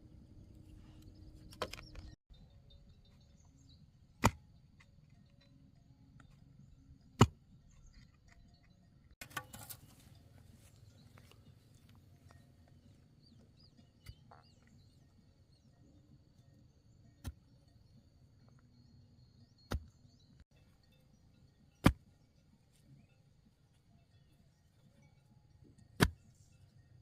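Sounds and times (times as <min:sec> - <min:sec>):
faint bird chirps: 0:00.2 - 0:27.0.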